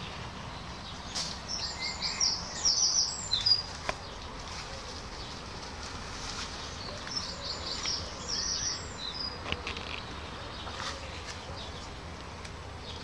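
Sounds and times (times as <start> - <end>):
birds chirping: 0.0 - 13.0
steady background noise: 0.0 - 13.0.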